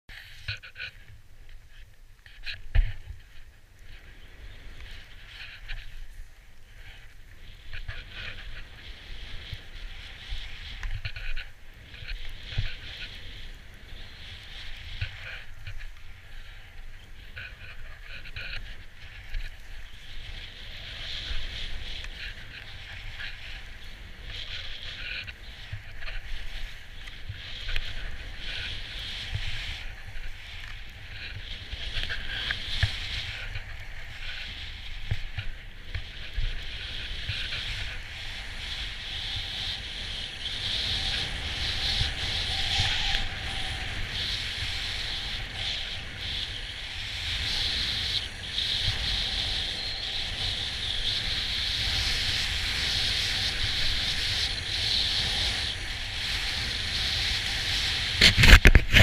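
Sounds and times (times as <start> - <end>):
skis hissing over snow: 0.1 - 59.0
wind rumble on microphone: 0.1 - 59.0.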